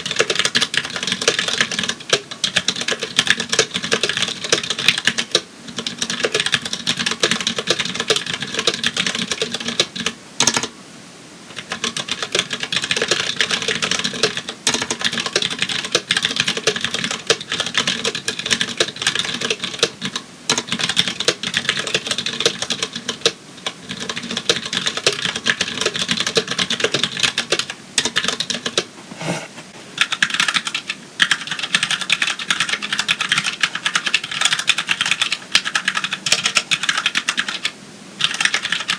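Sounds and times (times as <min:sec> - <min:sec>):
fast typing on mechanical keyboard: 0:00.0 - 0:10.7, 0:11.5 - 0:28.9, 0:30.0 - 0:38.9.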